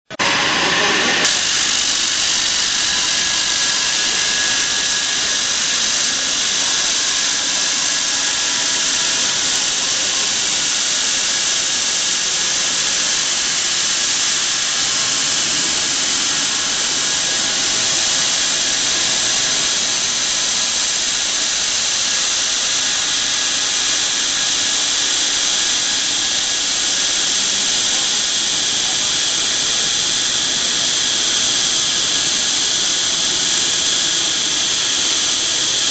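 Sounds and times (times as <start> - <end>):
belt grinder grinding steel: 0.0 - 35.9.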